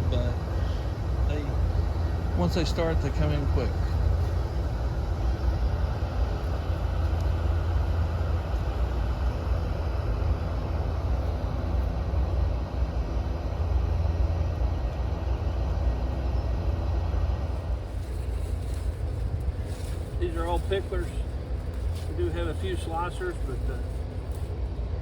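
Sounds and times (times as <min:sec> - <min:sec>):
faint hum: 0:00.0 - 0:25.0
low engine rumble: 0:00.0 - 0:25.0.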